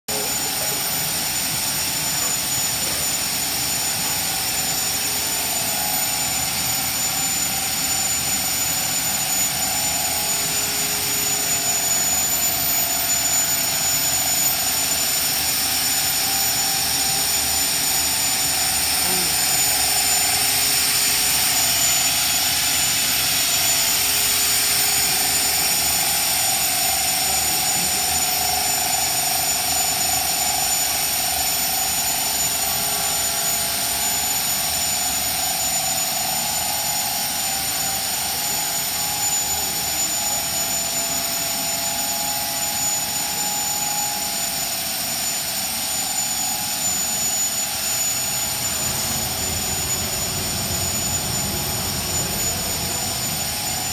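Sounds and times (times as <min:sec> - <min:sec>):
thin high tone: 0:00.1 - 0:35.2, 0:35.9 - 0:53.9
machine hiss: 0:00.1 - 0:53.9
mid-pitched machine whine: 0:00.1 - 0:53.9.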